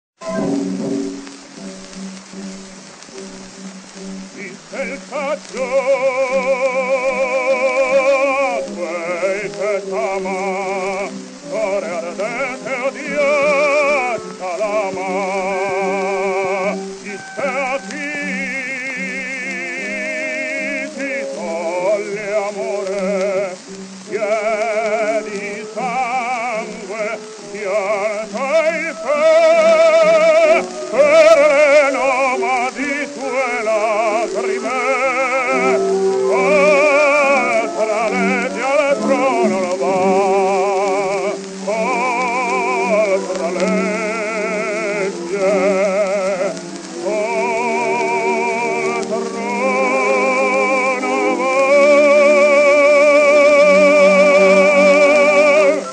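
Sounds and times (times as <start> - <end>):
baritone singing with orchestra: 0.2 - 55.9
record surface hiss and crackle: 0.2 - 55.9.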